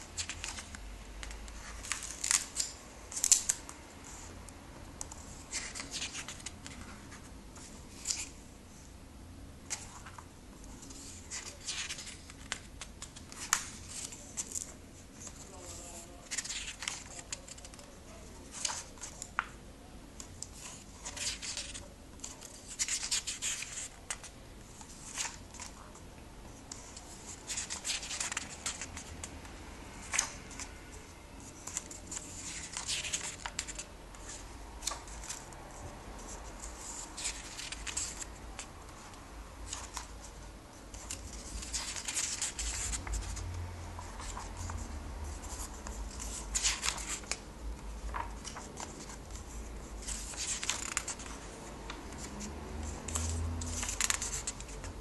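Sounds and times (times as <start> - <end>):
paper pages turning: 0.1 - 4.3, 5.0 - 8.4, 9.7 - 19.6, 20.2 - 26.0, 26.6 - 30.7, 31.4 - 55.0.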